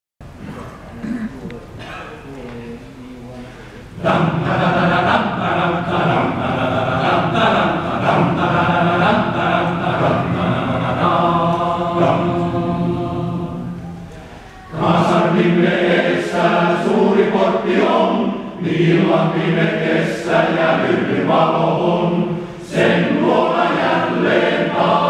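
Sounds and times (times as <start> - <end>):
men's choir singing: 3.9 - 14.1, 14.7 - 25.0.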